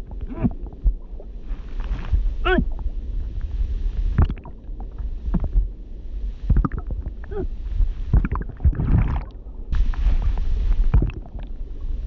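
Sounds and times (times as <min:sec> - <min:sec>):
bubbling and gurgling: 0:00.0 - 0:03.5, 0:04.1 - 0:12.0
low rumble: 0:00.0 - 0:12.0.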